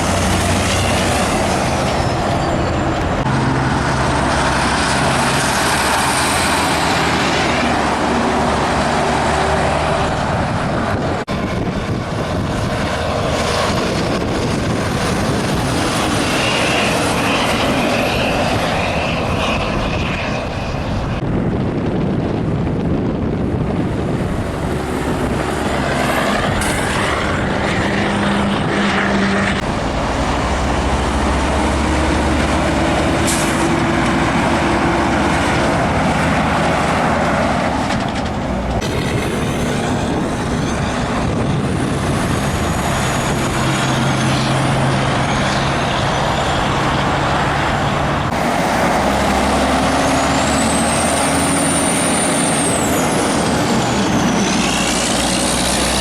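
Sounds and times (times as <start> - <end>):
heavy trucks passing: 0.0 - 56.0.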